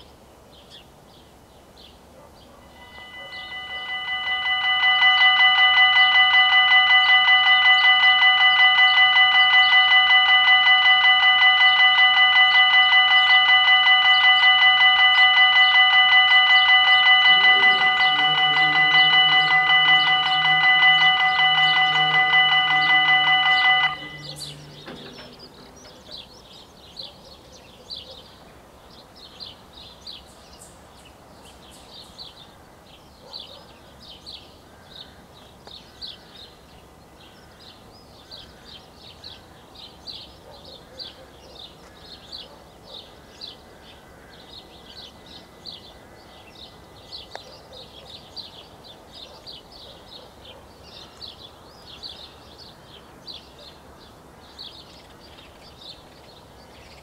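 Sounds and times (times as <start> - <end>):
faint background noise: 0.0 - 57.0.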